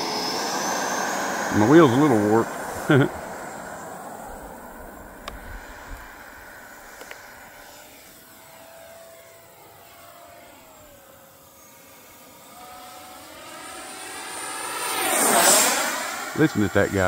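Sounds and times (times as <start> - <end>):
model jet fan whine: 0.0 - 17.0.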